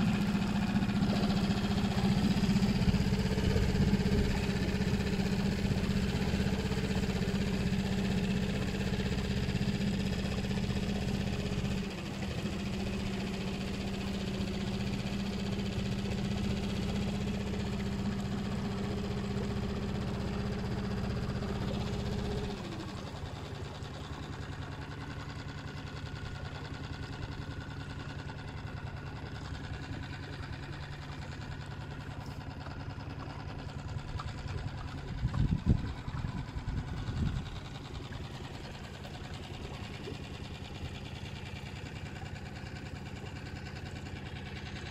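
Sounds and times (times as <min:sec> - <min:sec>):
boat motor running: 0:00.0 - 0:44.9.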